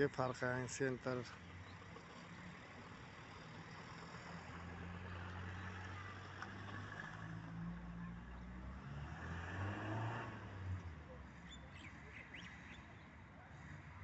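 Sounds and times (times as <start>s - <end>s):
vehicle engine humming: 0.0s - 12.6s.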